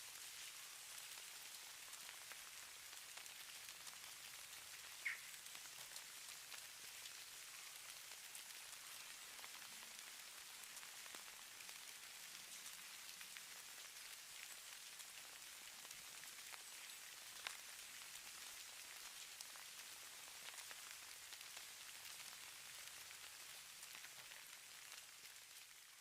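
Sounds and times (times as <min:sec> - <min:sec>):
light falling snow patter: 0:00.0 - 0:26.0.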